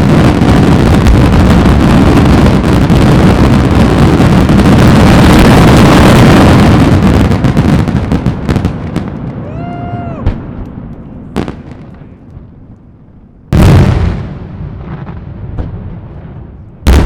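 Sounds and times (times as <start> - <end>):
firework bangs: 0.0 - 12.7, 13.5 - 17.0.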